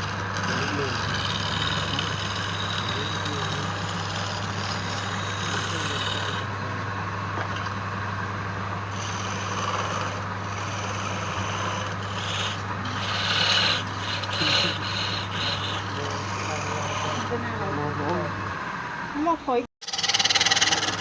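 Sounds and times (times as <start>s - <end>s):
tool scraping spinning wood: 0.0s - 6.6s, 8.8s - 18.2s, 19.8s - 21.0s
lathe motor hum: 0.0s - 19.1s, 19.8s - 21.0s.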